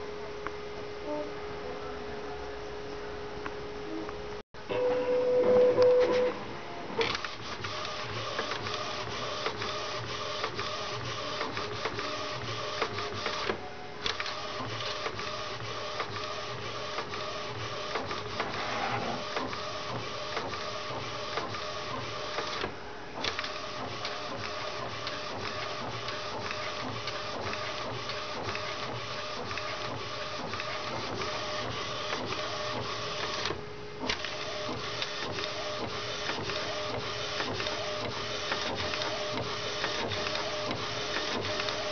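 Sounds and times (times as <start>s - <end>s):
inkjet printer motor whirring: 4.7s - 41.9s.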